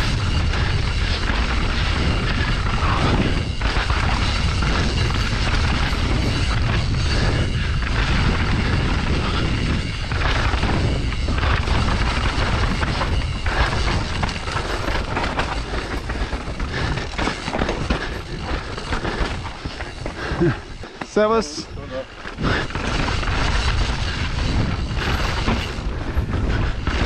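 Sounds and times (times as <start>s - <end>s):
bike rattling over rough ground: 0.0s - 27.0s
bike tyres rolling on dirt: 0.0s - 27.0s
wind buffeting microphone: 0.0s - 27.0s.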